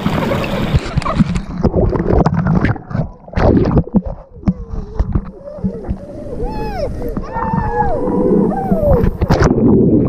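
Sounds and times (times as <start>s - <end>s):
water churning: 0.0s - 10.0s.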